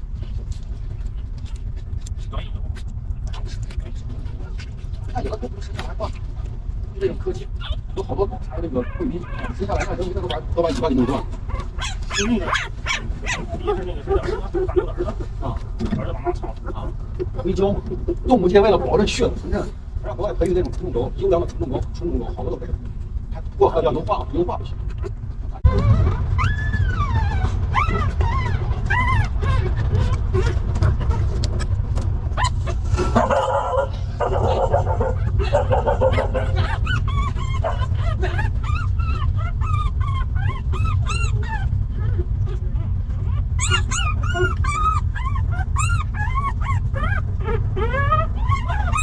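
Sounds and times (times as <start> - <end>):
steady low hum: 0.0 - 49.0
puppies whimpering and crying: 7.0 - 22.5, 24.9 - 49.0.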